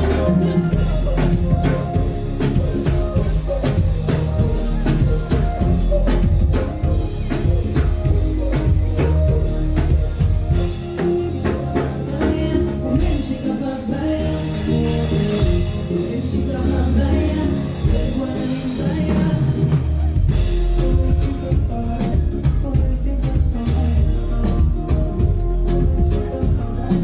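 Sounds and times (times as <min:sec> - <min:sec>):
live band music: 0:00.0 - 0:27.0
person singing: 0:00.0 - 0:27.0.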